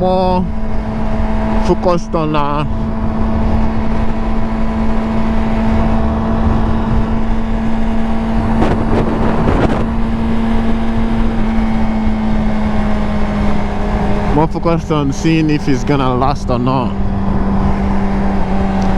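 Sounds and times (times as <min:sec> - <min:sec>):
motorcycle engine cruising: 0:00.0 - 0:18.9.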